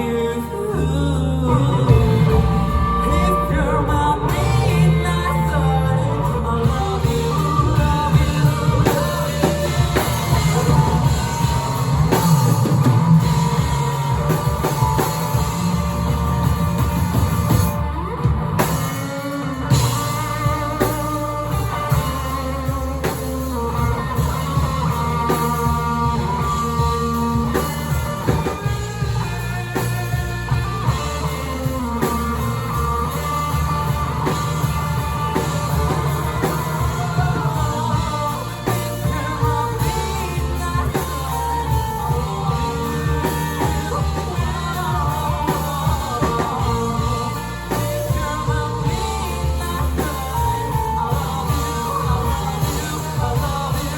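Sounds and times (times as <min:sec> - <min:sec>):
rock band playing: 0:00.0 - 0:53.9
wavering lead guitar notes: 0:00.0 - 0:53.9.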